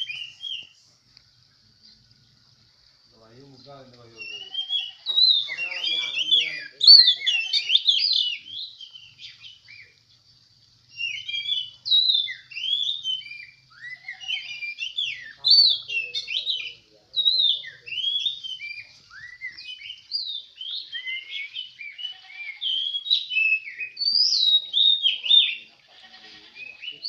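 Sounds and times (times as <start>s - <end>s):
songbirds singing whistled phrases: 0.0s - 2.0s, 3.3s - 27.0s.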